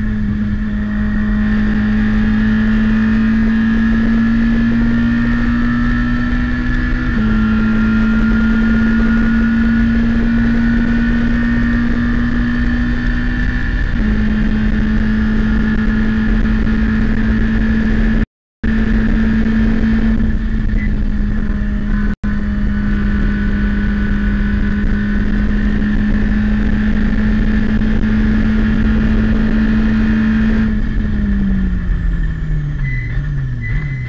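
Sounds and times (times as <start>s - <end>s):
race car engine revving: 0.0s - 34.0s.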